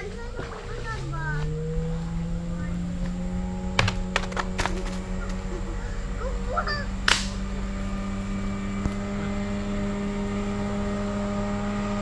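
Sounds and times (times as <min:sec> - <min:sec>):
steady multi-pitch hum: 0:00.0 - 0:11.3.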